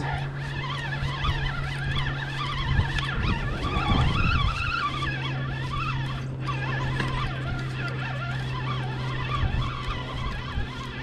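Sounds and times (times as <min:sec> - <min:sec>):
spinning reel whirring: 0:00.0 - 0:11.0
steady low hum: 0:00.0 - 0:11.0.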